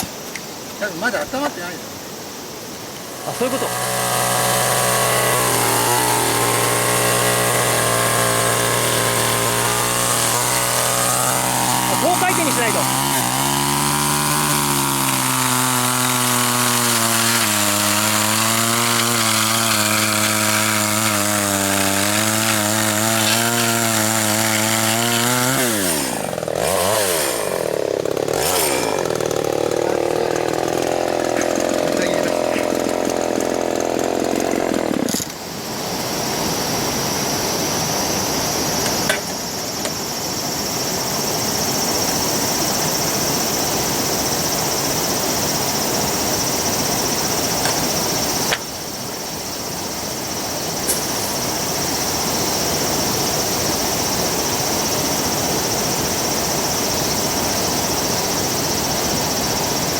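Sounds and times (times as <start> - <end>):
chainsaw cutting wood: 2.8 - 37.3, 37.9 - 40.0, 41.3 - 59.9.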